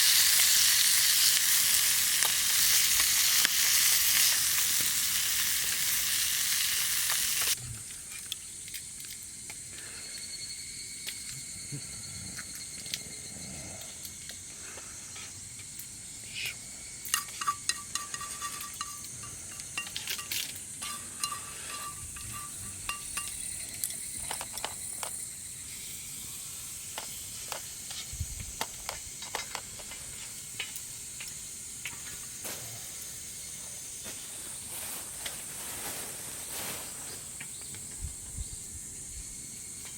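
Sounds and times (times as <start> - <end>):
food sizzling in a pan: 0.0 - 7.6, 15.1 - 39.9
insects trilling: 0.0 - 39.9.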